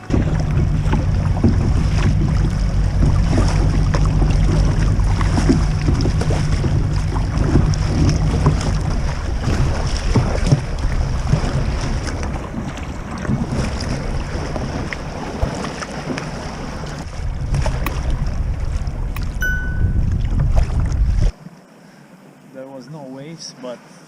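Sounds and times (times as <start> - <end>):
wind buffeting microphone: 0.0 - 21.3
water splashing against kayak: 0.0 - 22.3.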